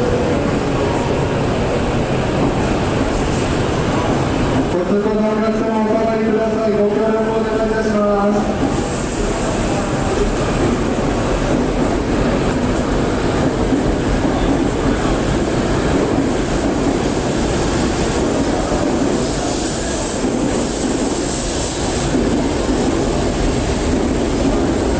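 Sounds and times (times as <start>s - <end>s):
high-speed train rolling past: 0.0s - 24.9s.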